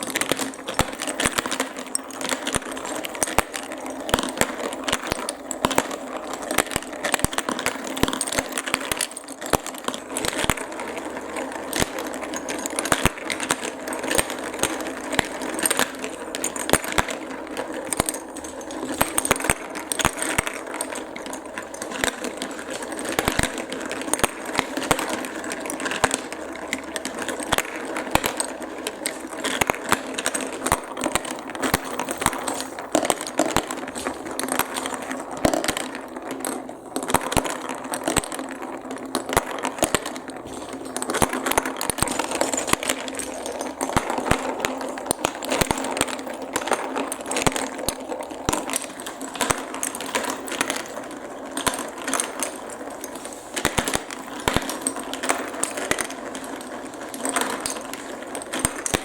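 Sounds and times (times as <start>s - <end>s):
marbles clattering down marble run: 0.0s - 59.0s.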